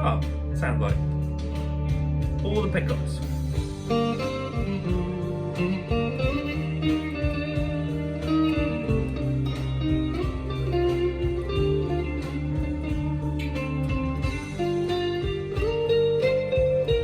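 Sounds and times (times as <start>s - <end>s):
clean electric guitar: 0.0s - 17.0s.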